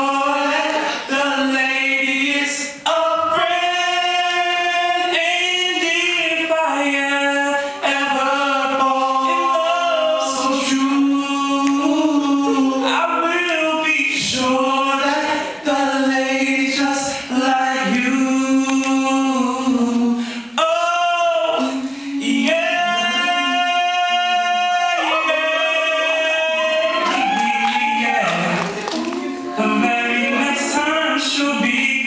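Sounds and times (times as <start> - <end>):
men singing in harmony: 0.0 - 32.0.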